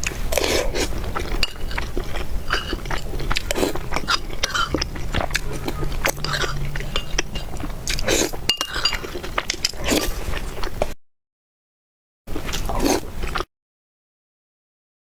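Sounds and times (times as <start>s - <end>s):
chewing and slurping noodles: 0.0s - 11.0s, 12.3s - 13.5s.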